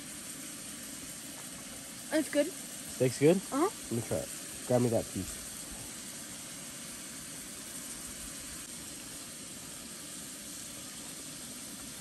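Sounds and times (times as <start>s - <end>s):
camp stove hissing: 0.0s - 12.0s.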